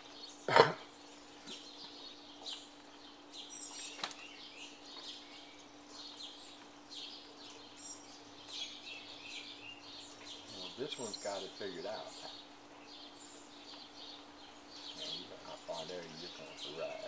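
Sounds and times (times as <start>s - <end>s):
birds chirping and calling: 0.0s - 17.0s
faint low hum: 0.0s - 17.0s.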